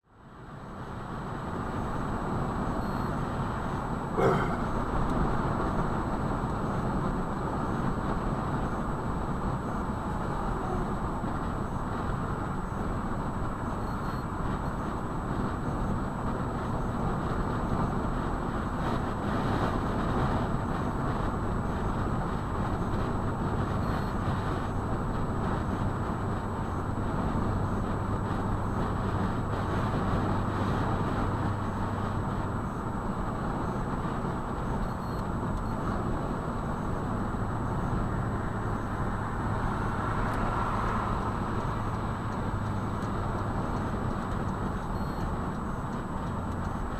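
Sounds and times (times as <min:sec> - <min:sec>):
vehicle road and engine noise: 0:00.0 - 0:46.9.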